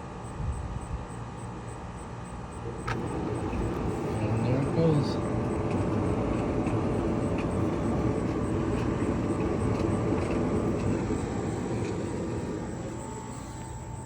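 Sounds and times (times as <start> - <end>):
air blowing from dryer vent: 2.6 - 14.0.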